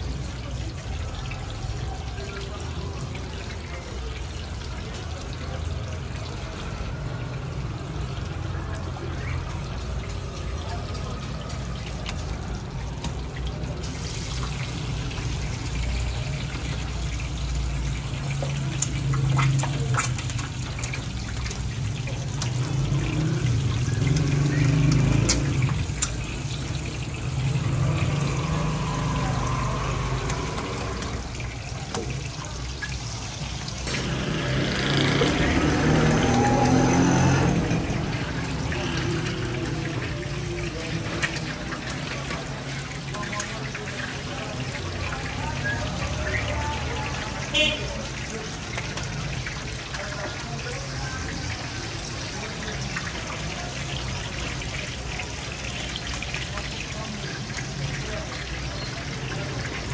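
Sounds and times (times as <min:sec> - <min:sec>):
patties sizzling in oil: 0:00.0 - 0:59.9.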